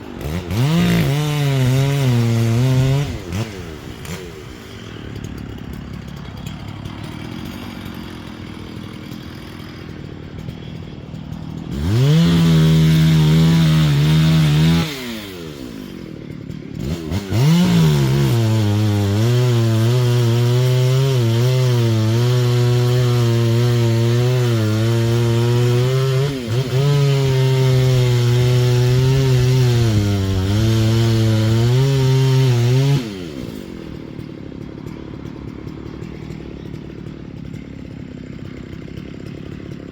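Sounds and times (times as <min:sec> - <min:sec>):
chainsaw cutting wood: 0:00.0 - 0:39.9
chainsaw idling and revving: 0:00.0 - 0:39.9.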